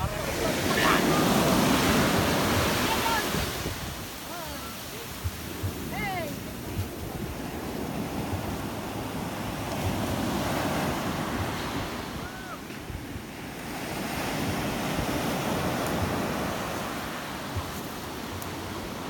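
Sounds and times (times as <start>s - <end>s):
surf breaking on a beach: 0.0s - 19.0s
wind buffeting the microphone: 0.0s - 19.0s.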